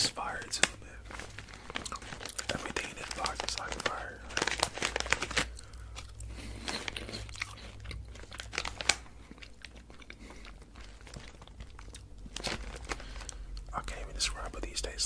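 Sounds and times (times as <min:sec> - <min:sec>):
crunching snack: 0:00.2 - 0:13.7
soft chewing: 0:00.4 - 0:04.6, 0:05.4 - 0:14.6.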